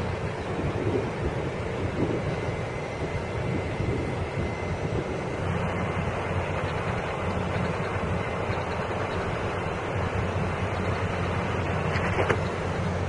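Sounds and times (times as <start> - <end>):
electric locomotive rumbling: 0.0 - 13.0.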